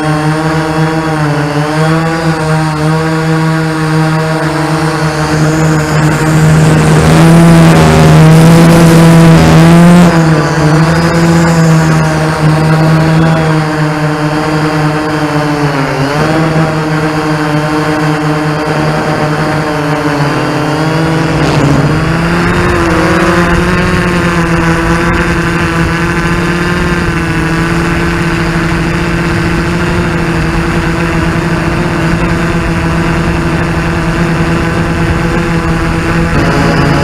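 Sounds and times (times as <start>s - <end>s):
drone motors humming: 0.0s - 37.0s.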